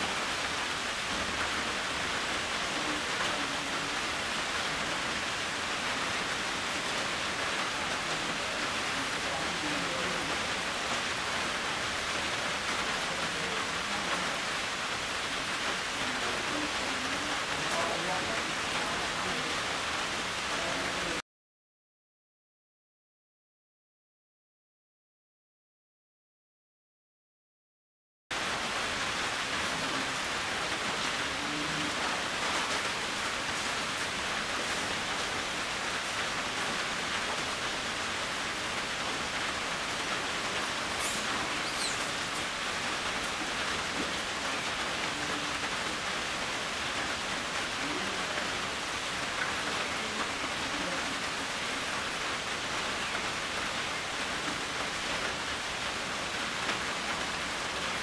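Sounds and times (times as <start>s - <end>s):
steady rain: 0.0s - 21.2s, 28.3s - 58.0s.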